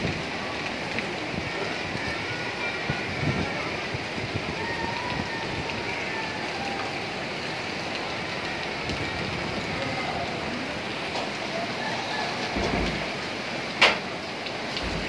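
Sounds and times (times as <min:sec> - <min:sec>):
flood river rushing: 0:00.0 - 0:15.0
heavy rain: 0:00.0 - 0:15.0.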